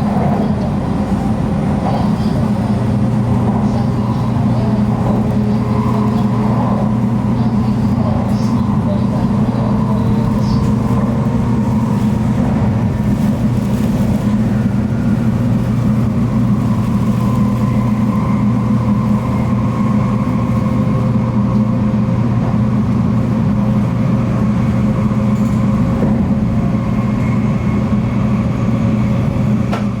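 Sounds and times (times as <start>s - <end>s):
train cabin rumble: 0.0s - 30.0s.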